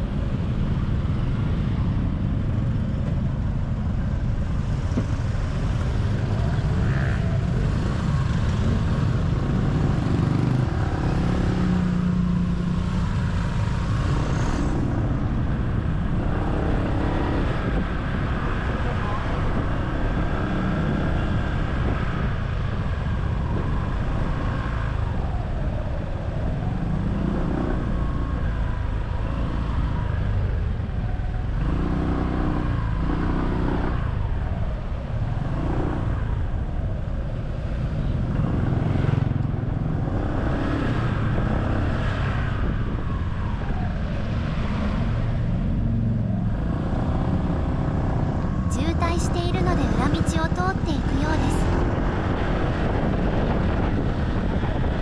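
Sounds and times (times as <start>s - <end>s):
wind and road noise: 0.0s - 49.1s, 49.7s - 55.0s.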